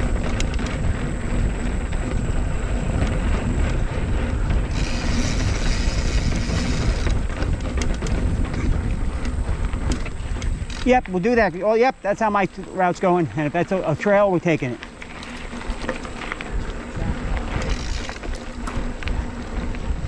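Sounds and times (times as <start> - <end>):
bike rattling and clicking: 0.0 - 20.0
wind and tyre rumble: 0.0 - 20.0.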